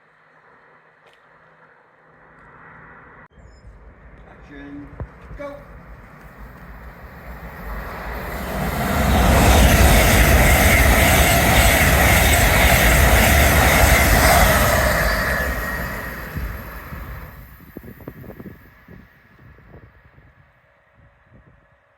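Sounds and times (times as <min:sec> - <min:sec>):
wheels ringing whine on rails: 0:00.1 - 0:20.8
train passing rumble: 0:00.1 - 0:21.9.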